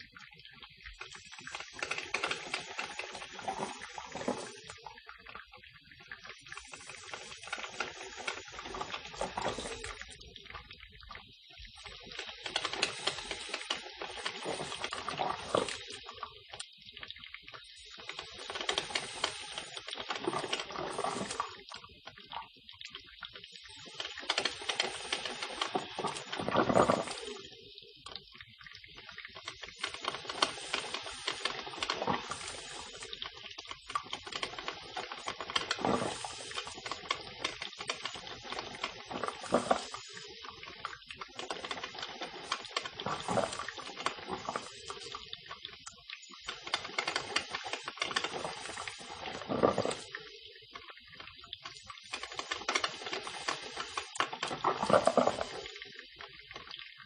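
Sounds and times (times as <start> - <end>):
coffee maker gurgling and hissing: 0.0 - 57.0.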